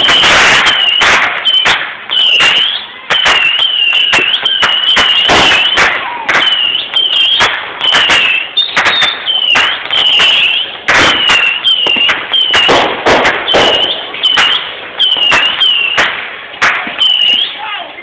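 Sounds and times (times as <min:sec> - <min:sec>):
fireworks bangs: 0:00.0 - 0:17.8
fireworks whistling: 0:00.0 - 0:17.8.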